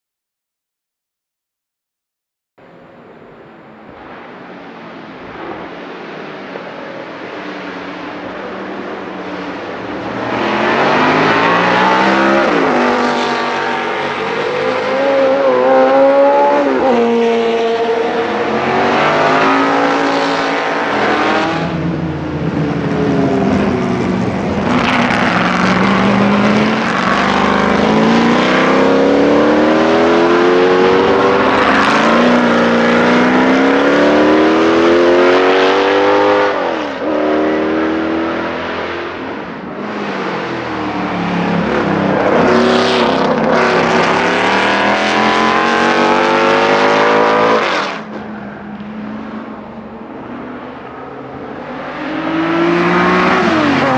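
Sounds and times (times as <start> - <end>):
race car engine accelerating past: 4.0 - 53.9.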